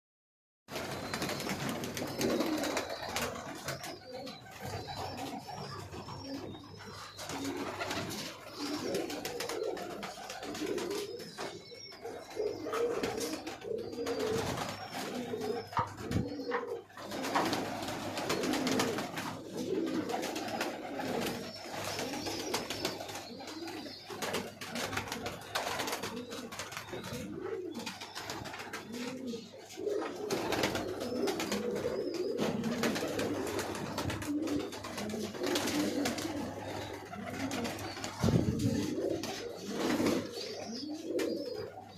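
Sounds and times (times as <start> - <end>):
pigeons cooing: 0.7 - 41.9.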